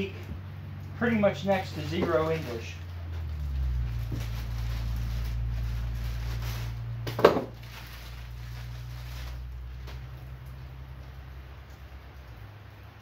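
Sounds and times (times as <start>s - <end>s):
bubble wrap rustling: 0.0s - 11.2s.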